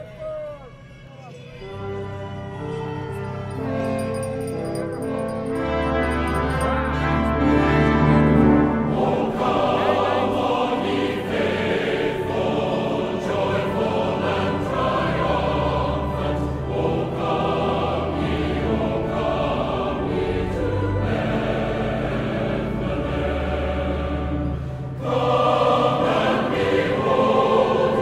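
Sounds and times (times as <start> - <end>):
low musical accompaniment: 0.0 - 28.0
choir singing: 5.0 - 28.0.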